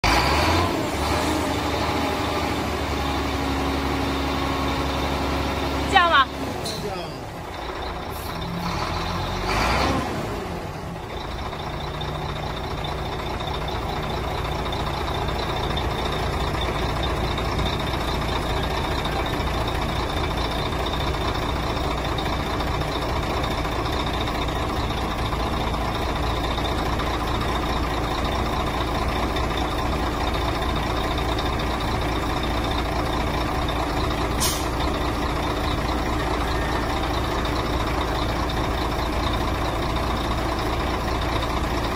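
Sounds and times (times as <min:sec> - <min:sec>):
diesel truck engine running: 0:00.0 - 0:41.9.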